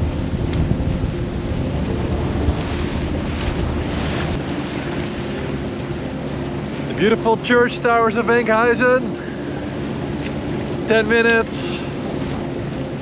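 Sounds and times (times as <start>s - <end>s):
boat engine humming: 0.0s - 13.0s
water rushing along hull: 0.0s - 13.0s
wind buffeting microphone: 0.0s - 13.0s.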